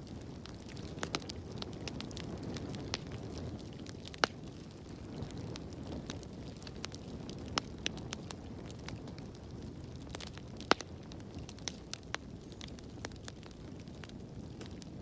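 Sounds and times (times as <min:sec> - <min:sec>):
fire crackles and pops: 0:00.0 - 0:15.0
fire rumbling in a fireplace: 0:00.0 - 0:15.0.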